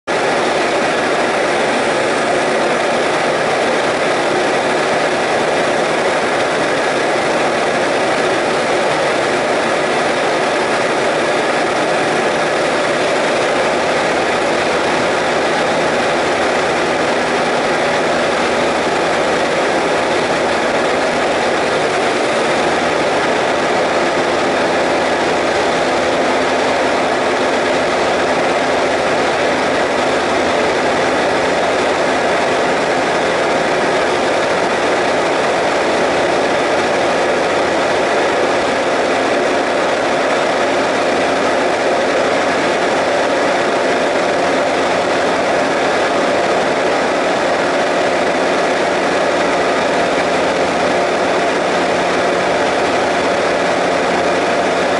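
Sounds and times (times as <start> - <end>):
light aircraft engine and propeller: 0.0 - 54.9
rushing airflow: 0.1 - 54.9.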